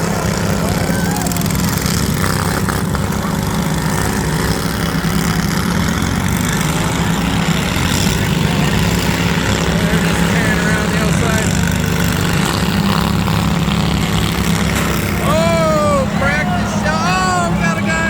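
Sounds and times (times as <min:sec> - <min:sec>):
riding lawn mower engines droning: 0:00.0 - 0:18.0.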